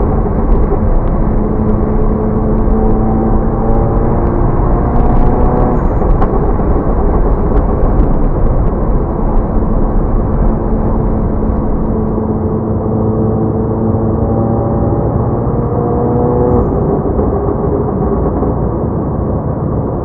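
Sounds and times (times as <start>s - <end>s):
loud car exhaust rumble: 0.0s - 20.0s.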